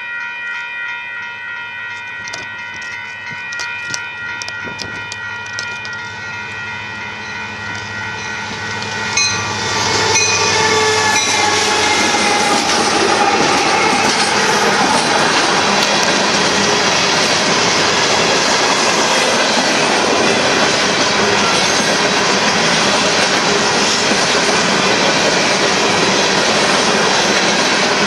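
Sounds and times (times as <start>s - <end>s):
freight train wheels on rails: 0.0s - 28.0s.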